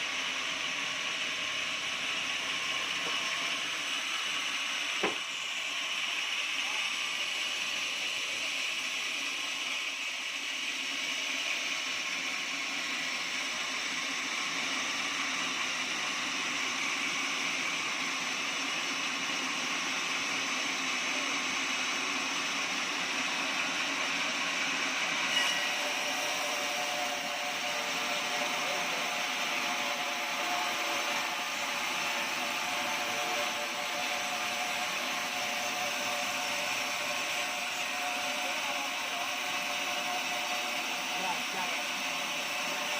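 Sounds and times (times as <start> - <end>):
sawmill blade cutting log: 1.0 - 9.9, 10.6 - 42.9.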